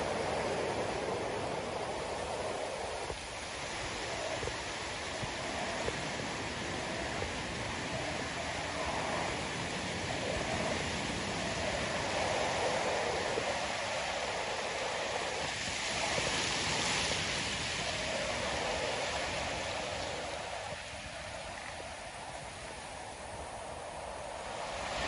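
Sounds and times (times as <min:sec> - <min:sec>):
ocean surf breaking on shore: 0:00.0 - 0:25.0.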